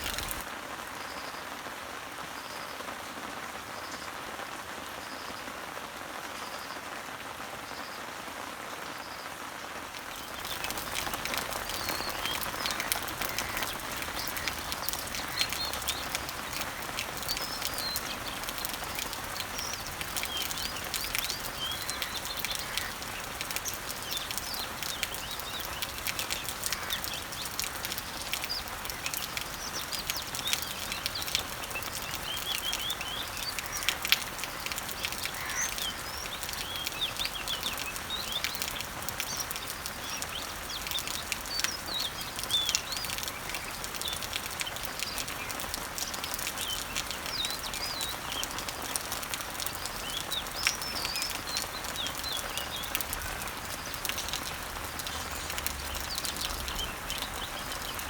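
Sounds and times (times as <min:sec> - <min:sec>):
small birds chirping: 0:00.0 - 0:00.5, 0:08.9 - 0:58.0
water drip: 0:00.0 - 0:00.5, 0:09.9 - 0:58.0
rain falling on leaves: 0:00.0 - 0:58.0.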